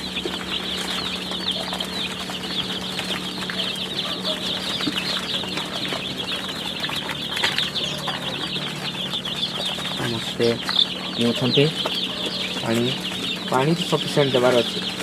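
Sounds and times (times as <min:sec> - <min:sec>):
chicks peeping: 0:00.0 - 0:15.0
steady low hum: 0:00.0 - 0:15.0.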